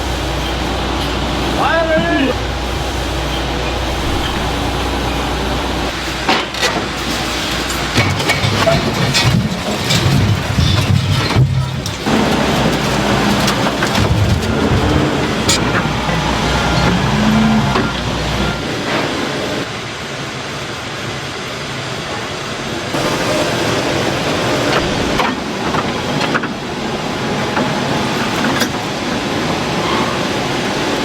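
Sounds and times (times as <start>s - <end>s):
factory machinery running: 0.0s - 31.0s.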